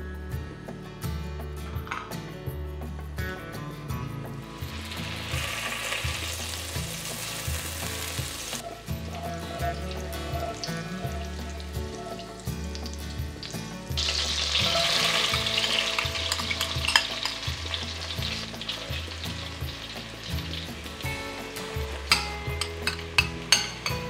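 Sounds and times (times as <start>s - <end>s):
onion sizzling in butter: 4.5s - 23.9s
butter sizzling in a pot: 4.5s - 24.0s.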